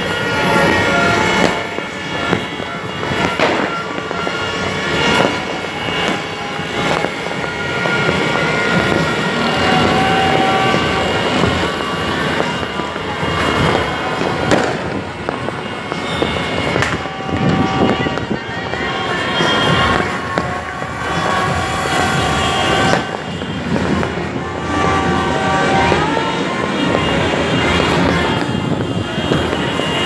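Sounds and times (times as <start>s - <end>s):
distant fireworks crackling: 0.0s - 30.0s
loud firework bangs: 0.0s - 30.0s.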